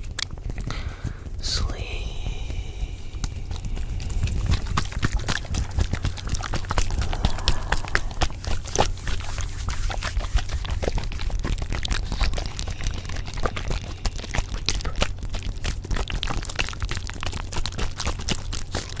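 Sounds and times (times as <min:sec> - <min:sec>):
steady low rumble: 0:00.0 - 0:18.9
crackling and clicking: 0:00.0 - 0:19.0.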